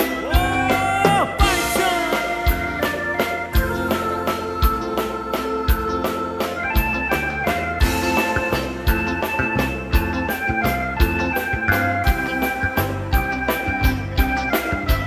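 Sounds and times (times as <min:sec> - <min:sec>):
drum kit waltz beat: 0:00.0 - 0:15.0
electronic organ melody: 0:00.0 - 0:15.0.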